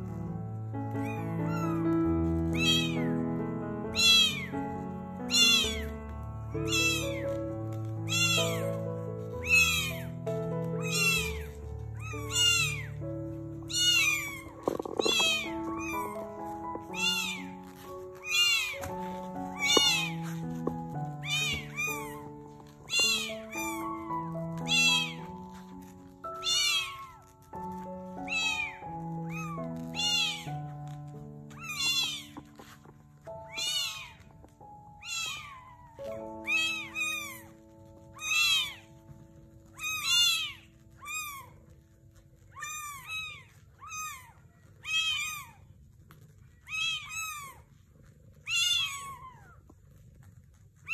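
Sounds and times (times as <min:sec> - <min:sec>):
soft background music: 0:00.0 - 0:50.9
kittens mewing: 0:00.9 - 0:03.1, 0:03.9 - 0:04.5, 0:05.2 - 0:06.0, 0:06.6 - 0:10.2, 0:10.8 - 0:13.0, 0:13.6 - 0:50.9.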